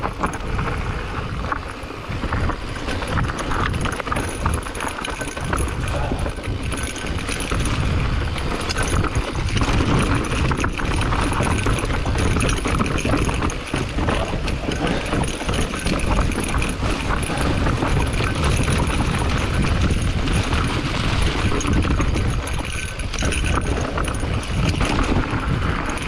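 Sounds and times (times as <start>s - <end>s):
bike knocks and rattles: 0.0s - 26.0s
tyres rumbling on dirt and rock: 0.0s - 26.0s
wind buffeting microphone: 0.0s - 26.0s.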